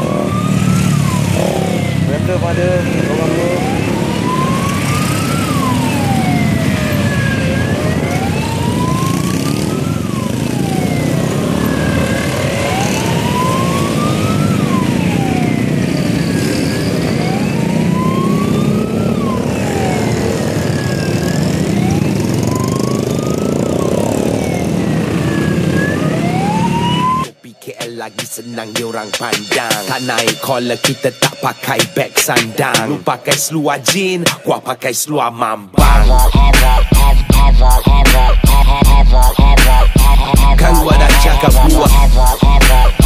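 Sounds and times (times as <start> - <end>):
siren wailing: 0.0 - 34.8, 35.8 - 43.0
engines rumbling: 0.0 - 43.0.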